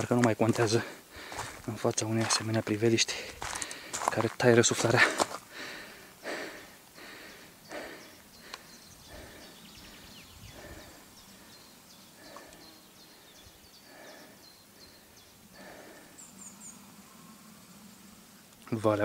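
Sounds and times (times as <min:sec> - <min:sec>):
slow breathing close up: 0:00.7 - 0:01.7, 0:03.1 - 0:04.1, 0:05.0 - 0:18.6.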